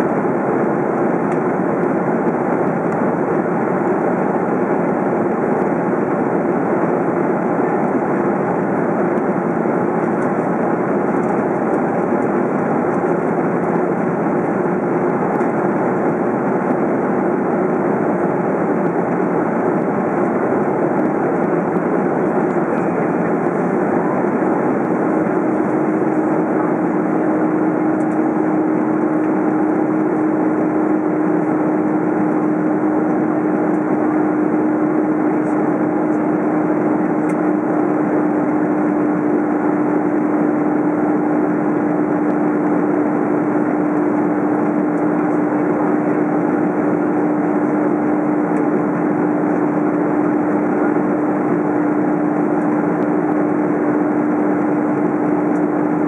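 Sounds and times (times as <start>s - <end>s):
jet engines and airflow rushing: 0.0s - 56.0s
steady cabin hum: 0.0s - 56.0s.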